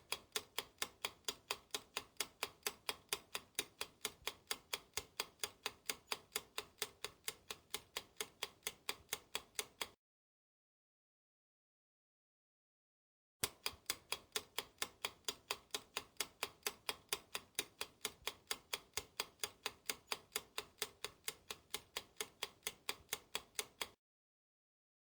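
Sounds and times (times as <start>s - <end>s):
clock ticking: 0.0s - 10.0s, 13.4s - 24.0s.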